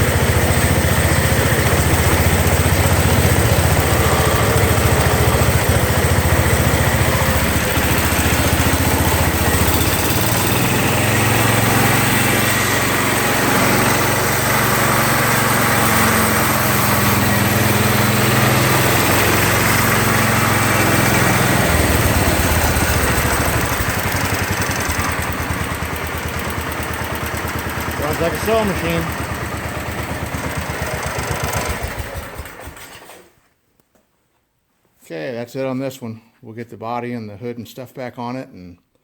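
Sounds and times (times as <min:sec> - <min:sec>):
single-cylinder engine running: 0:00.0 - 0:33.2.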